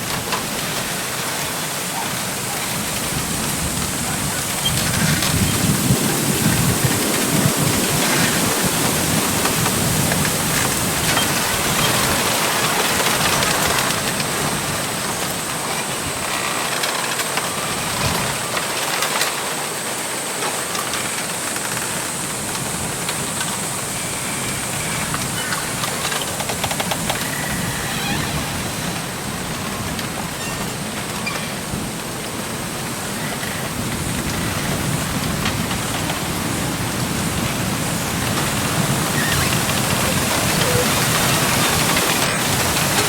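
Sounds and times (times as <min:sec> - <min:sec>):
wind rushing through bamboo leaves: 0:00.0 - 0:43.0.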